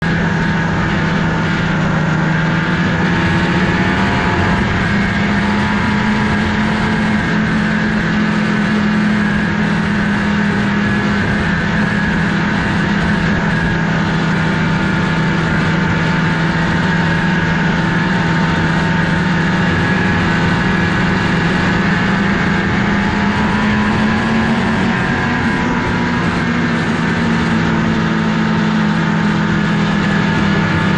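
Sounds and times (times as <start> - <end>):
engines droning: 0.0 - 30.9.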